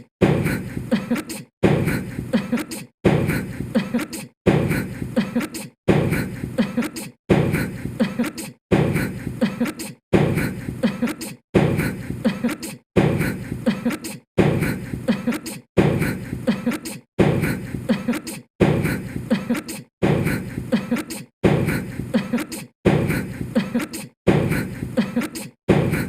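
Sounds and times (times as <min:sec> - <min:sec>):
man sneezing: 0:00.5 - 0:26.0.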